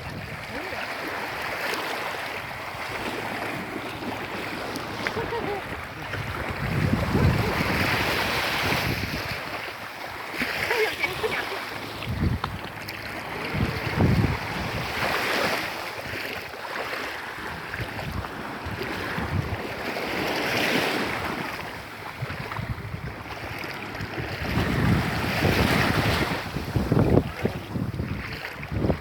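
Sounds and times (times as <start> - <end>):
wind buffeting microphone: 0.0 - 1.6, 2.3 - 16.5, 17.3 - 29.0
surf washing onto beach: 0.0 - 29.0.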